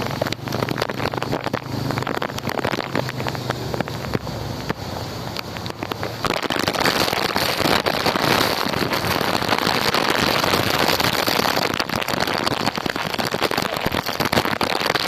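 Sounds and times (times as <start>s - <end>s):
strong storm wind rushing: 0.0s - 15.0s.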